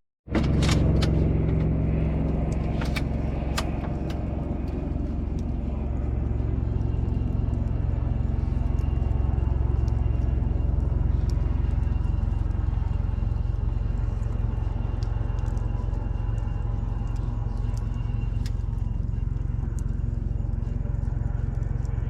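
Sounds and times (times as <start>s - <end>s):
low rumble: 0.3s - 22.0s
bonfire crackling: 0.8s - 22.0s.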